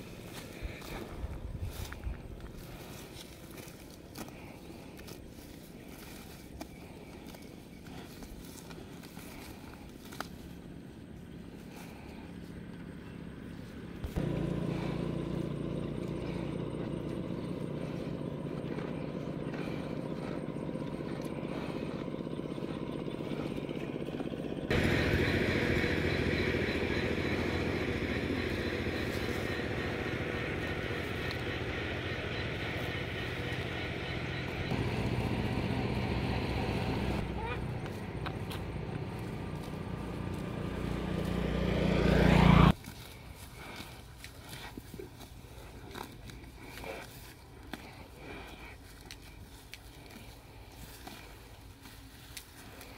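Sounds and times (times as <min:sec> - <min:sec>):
engine humming: 0:00.0 - 0:52.9.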